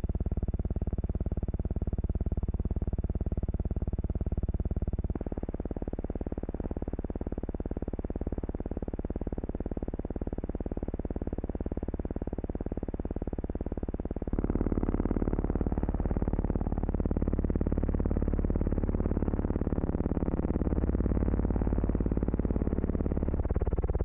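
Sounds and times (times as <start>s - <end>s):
pulsing low buzz: 0.0s - 24.0s.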